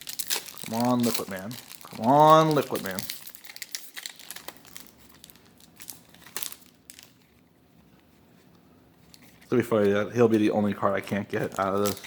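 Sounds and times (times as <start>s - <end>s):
cards and foil wrapper crinkling: 0.0s - 7.4s, 9.1s - 12.0s.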